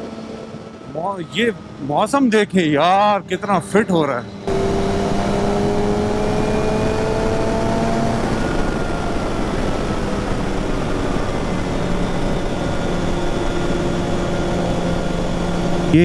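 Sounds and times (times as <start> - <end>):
motorcycle engine cruising: 0.0 - 16.0
wind and road rush: 0.0 - 16.0.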